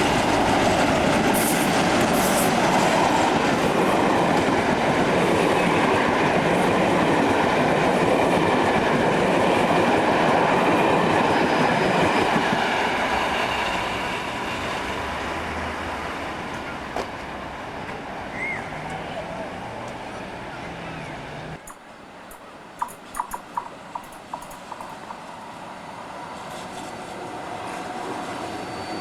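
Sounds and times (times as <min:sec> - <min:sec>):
train rumbling past on rails: 0:00.0 - 0:29.0.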